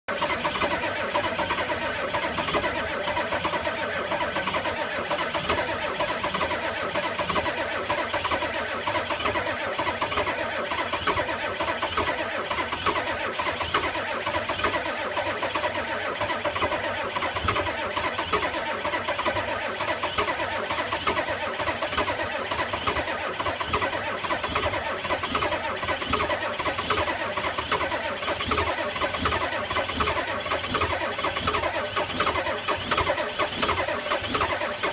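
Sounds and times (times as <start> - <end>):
starter cranking diesel engine: 0.0 - 34.9.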